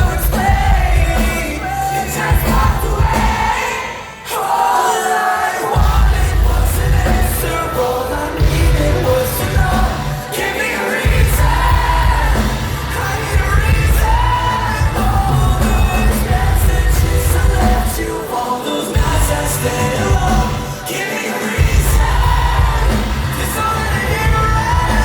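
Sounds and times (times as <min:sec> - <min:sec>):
live rock band playing: 0:00.0 - 0:04.2, 0:05.7 - 0:25.0
person singing: 0:00.0 - 0:25.0.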